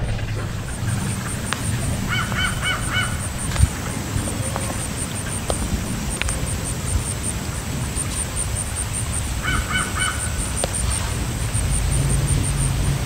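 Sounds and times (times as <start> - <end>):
bird harsh calls: 0.0 - 13.0
low outdoor rumble: 0.0 - 13.0.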